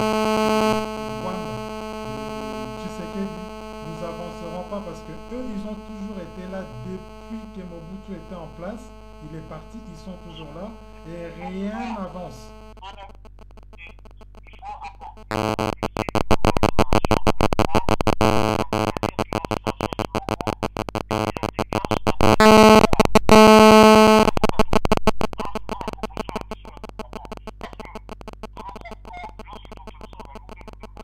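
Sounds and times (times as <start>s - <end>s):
radio interference buzzing: 0.0s - 31.0s.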